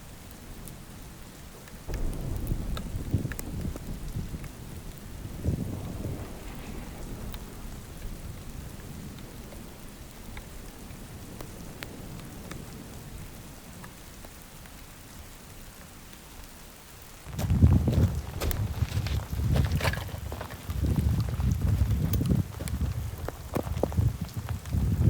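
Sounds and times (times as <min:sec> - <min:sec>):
low rumble of thunder: 0:00.0 - 0:25.0
steady rain falling: 0:00.0 - 0:25.0.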